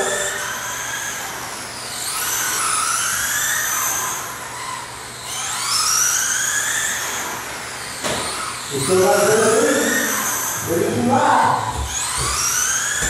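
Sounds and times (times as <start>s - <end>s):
high-pitched electric motor whines: 0.0s - 13.0s.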